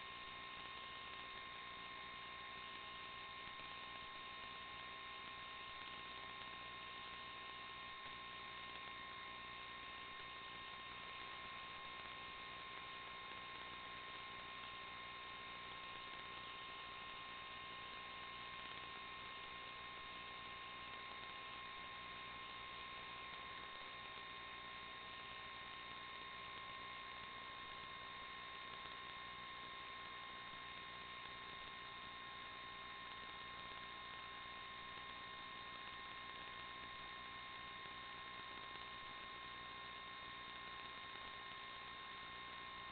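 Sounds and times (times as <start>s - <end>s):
electronic hiss and hum: 0.0s - 42.9s.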